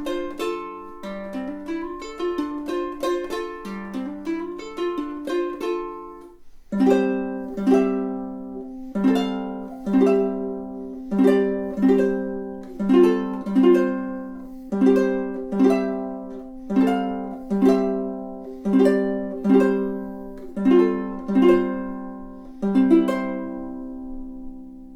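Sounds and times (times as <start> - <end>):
ukulele fingerpicked notes: 0.0 - 24.9
ukulele strummed chords: 0.0 - 24.9.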